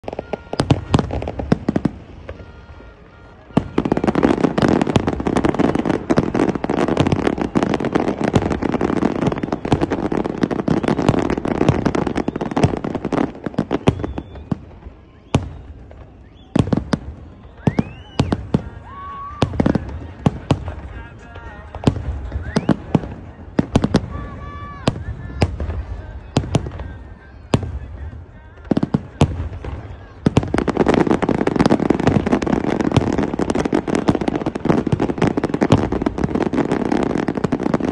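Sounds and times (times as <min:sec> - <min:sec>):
fireworks bangs and crackle: 0:00.0 - 0:37.9.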